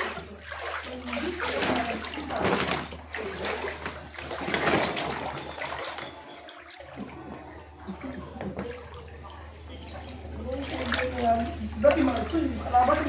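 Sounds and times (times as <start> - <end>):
feet wading through water: 0.0 - 13.0.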